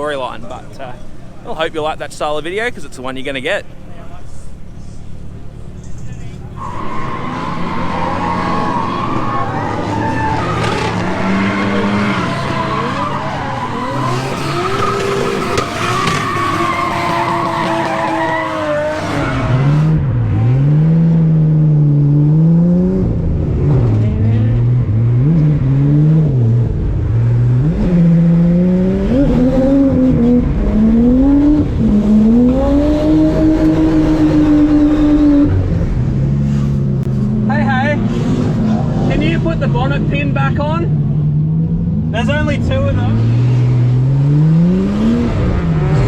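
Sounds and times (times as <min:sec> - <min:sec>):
tyres skidding: 0:00.0 - 0:46.0
car engine revving: 0:04.9 - 0:46.0.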